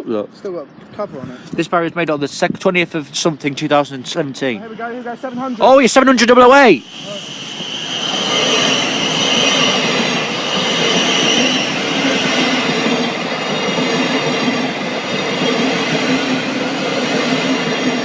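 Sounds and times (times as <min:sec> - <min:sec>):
train wheels rushing on rail: 0:01.0 - 0:18.0.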